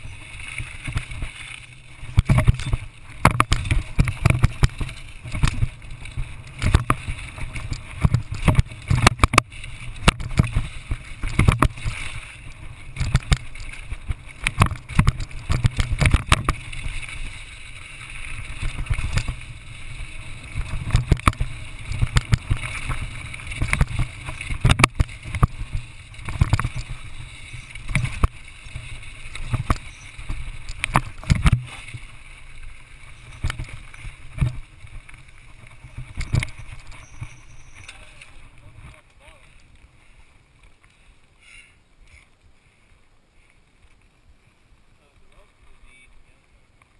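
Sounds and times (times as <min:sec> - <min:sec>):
bike knocks and rattles: 0:00.0 - 0:38.4
tyres and wind rumble: 0:00.0 - 0:46.9.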